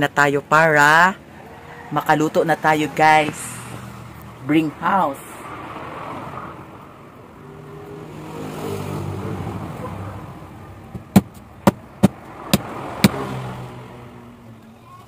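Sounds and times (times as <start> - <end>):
passing vehicle engine hum: 0.0 - 15.0.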